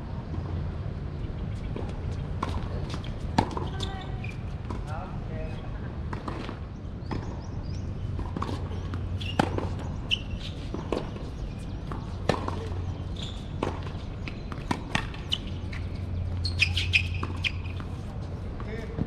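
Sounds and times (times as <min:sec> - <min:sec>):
tennis ball bounces: 0:01.7 - 0:04.9, 0:06.1 - 0:19.0.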